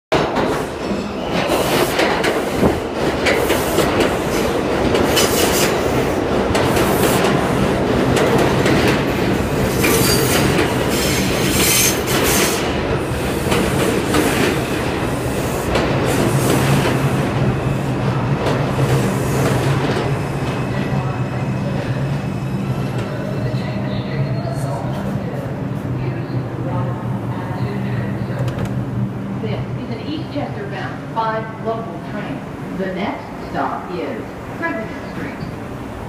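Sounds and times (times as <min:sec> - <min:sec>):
subway train wheels clattering: 0:00.1 - 0:36.0
train humming: 0:00.1 - 0:36.0.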